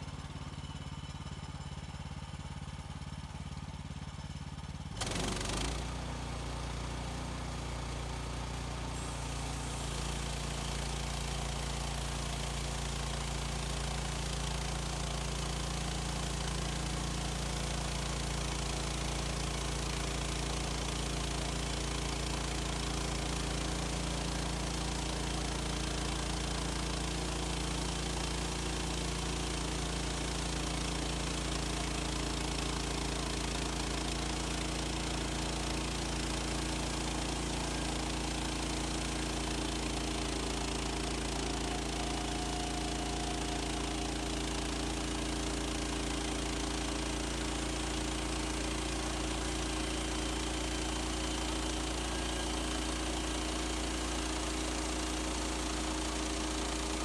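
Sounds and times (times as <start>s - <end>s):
sawmill gas engine running: 0.0s - 57.0s.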